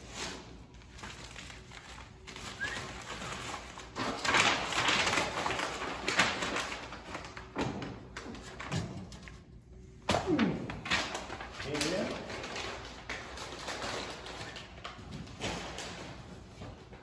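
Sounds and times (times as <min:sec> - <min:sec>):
paper sheet rustling and crinkling: 0:00.0 - 0:09.6, 0:10.7 - 0:17.0.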